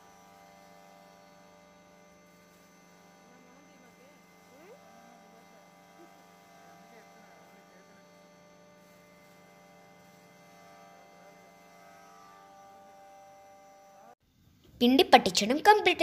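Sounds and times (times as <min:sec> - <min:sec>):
electric flour mill humming: 0:00.0 - 0:14.2.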